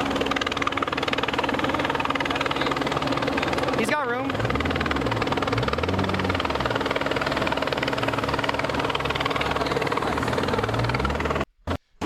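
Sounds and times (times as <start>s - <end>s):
helicopter rotor chopping: 0.0s - 11.5s.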